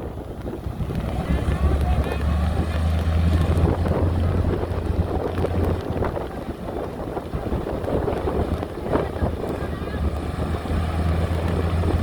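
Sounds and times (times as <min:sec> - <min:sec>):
diesel engine low drone: 0:00.0 - 0:12.0
wind buffeting microphone: 0:00.0 - 0:12.0.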